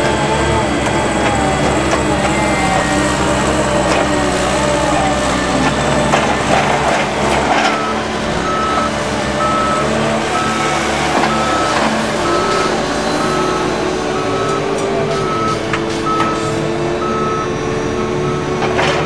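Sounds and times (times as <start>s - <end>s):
diesel engine running: 0.0s - 19.0s
reversing alarm beeping: 1.2s - 19.0s.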